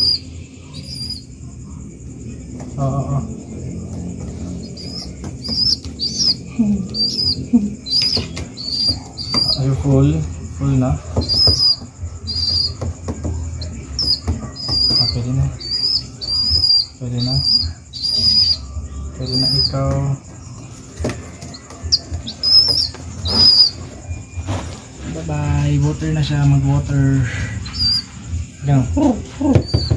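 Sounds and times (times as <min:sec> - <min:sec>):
wing fluttering: 0:00.0 - 0:26.7
baby pigeon squeaking: 0:00.0 - 0:29.9.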